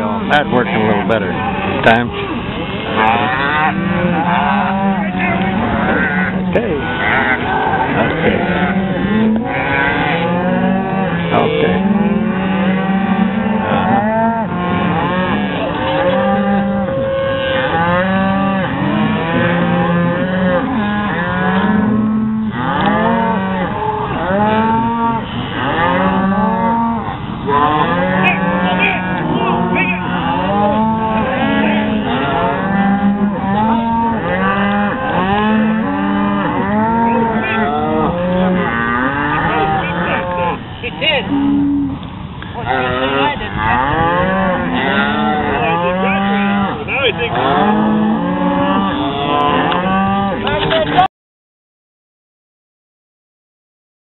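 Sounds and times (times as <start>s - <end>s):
cattle bawling: 0.0s - 51.1s.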